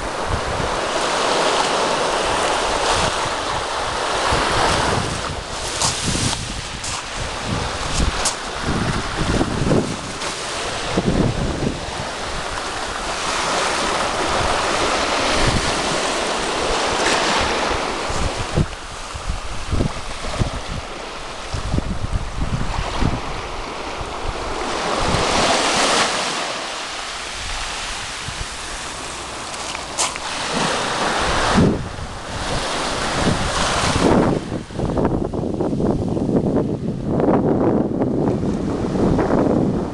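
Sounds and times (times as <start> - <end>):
sea waves breaking on shore: 0.0 - 39.9
wind buffeting microphone: 0.0 - 39.9.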